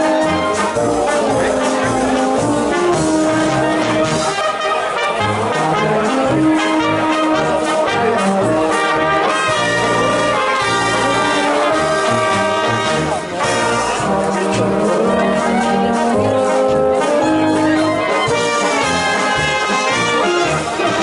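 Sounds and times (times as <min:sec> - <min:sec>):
brass band playing dance tune: 0:00.0 - 0:21.0.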